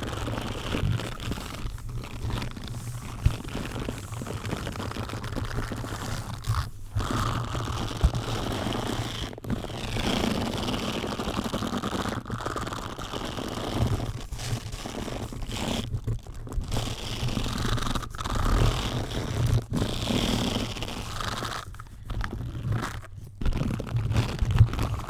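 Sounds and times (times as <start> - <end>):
rubbing on microphone: 0.0 - 25.0.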